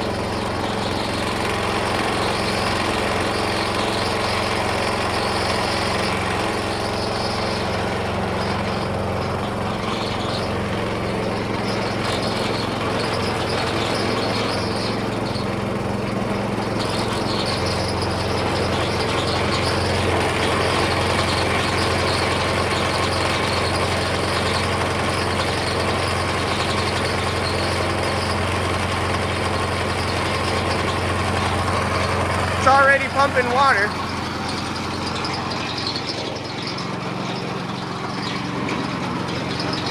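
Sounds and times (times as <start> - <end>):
small engine droning: 0.0 - 39.9.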